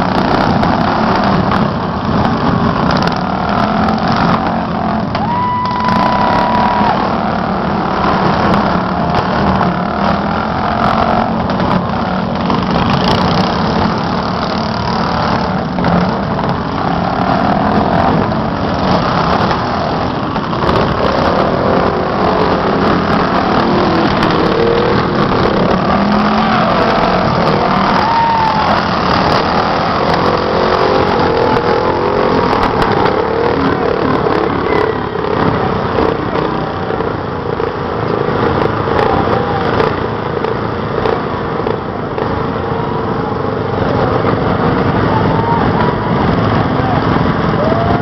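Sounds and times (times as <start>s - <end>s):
lawn mower engines revving: 0.0s - 48.0s.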